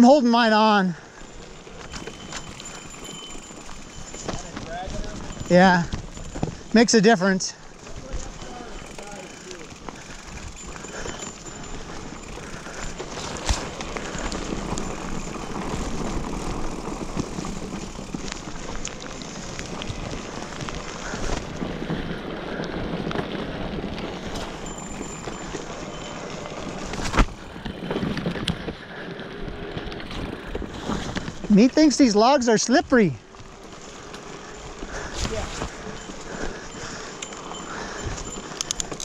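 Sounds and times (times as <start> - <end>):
bike rattles: 0.0 - 39.0
tyre and rain rush: 0.0 - 39.0.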